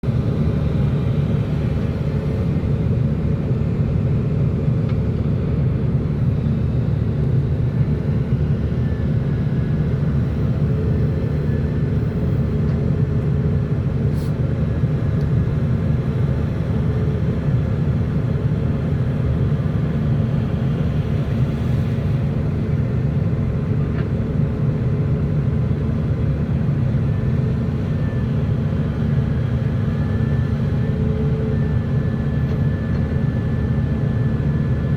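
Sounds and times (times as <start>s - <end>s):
heavy engine running: 0.0s - 34.9s.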